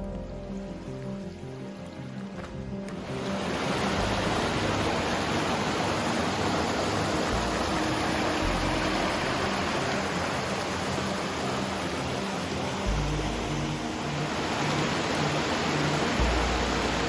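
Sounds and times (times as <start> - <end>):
rushing brook water: 0.0 - 17.0.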